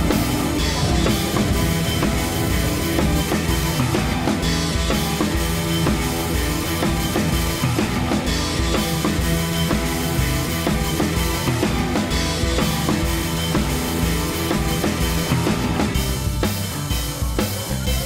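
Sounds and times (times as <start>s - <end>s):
music with drum beat: 0.0s - 18.0s.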